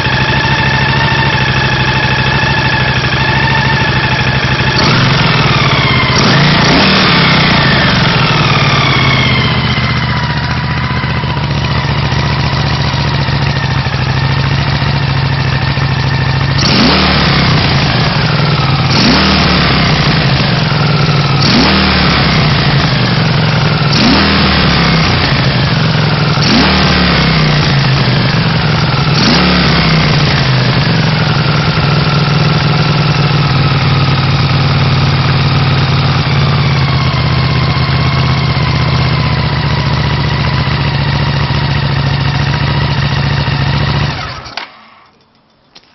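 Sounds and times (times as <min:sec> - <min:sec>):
engine revving on throttle blips: 0:00.0 - 0:44.6
motorcycle engine idling: 0:00.0 - 0:45.1.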